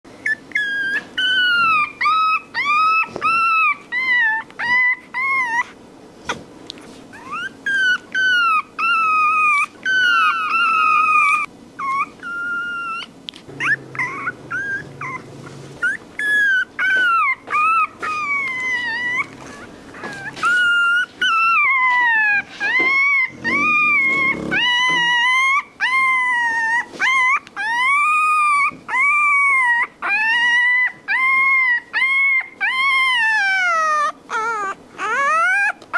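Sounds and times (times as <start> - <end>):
puppies whimpering and squealing: 0.1 - 35.9.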